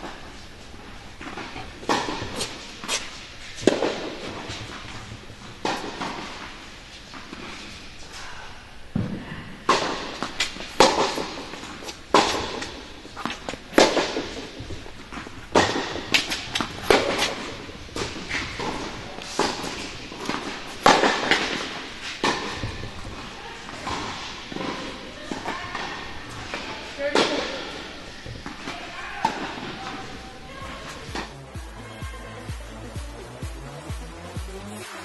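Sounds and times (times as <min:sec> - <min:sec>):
tennis ball bouncing: 0:00.0 - 0:07.9, 0:08.9 - 0:31.8
rackets striking tennis ball: 0:00.0 - 0:08.3, 0:08.9 - 0:32.4.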